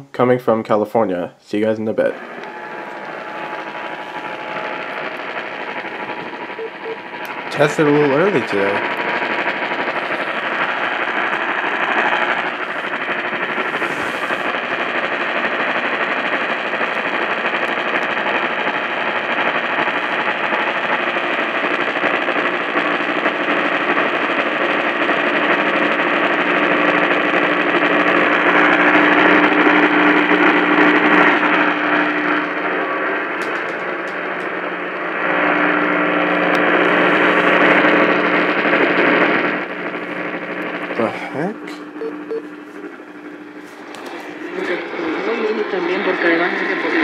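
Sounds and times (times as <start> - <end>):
radio static hiss: 1.0 - 47.0.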